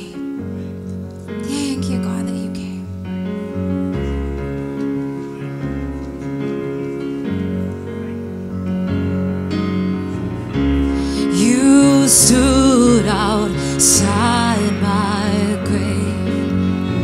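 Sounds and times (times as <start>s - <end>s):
sustained keyboard chords: 0.0s - 17.0s
deep bass notes: 1.3s - 17.0s.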